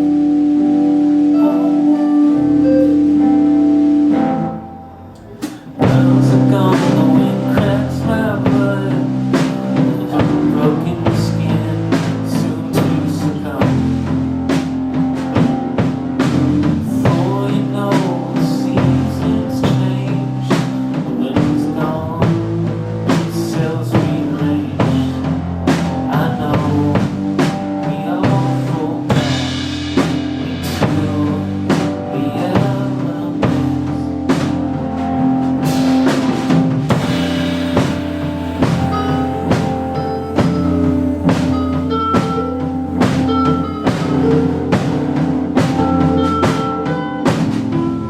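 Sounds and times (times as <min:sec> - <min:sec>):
bass guitar: 0:00.0 - 0:48.0
electric guitar: 0:00.0 - 0:48.0
drum kit beat: 0:04.1 - 0:48.0.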